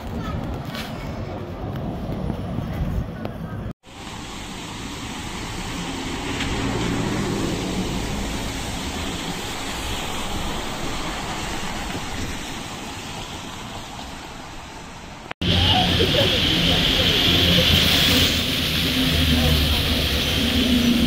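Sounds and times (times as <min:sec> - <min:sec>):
bus driving past: 0:03.9 - 0:21.0.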